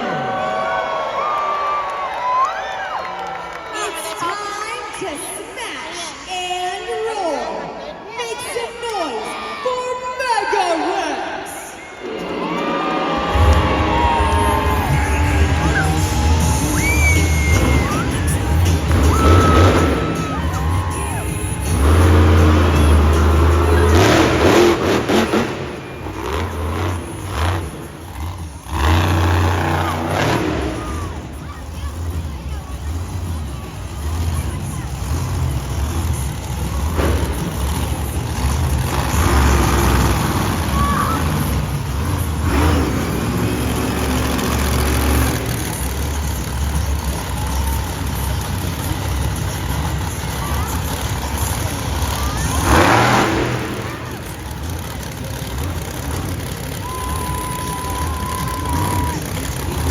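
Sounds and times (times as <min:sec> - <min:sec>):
monster truck engine revving: 0:11.9 - 0:59.9.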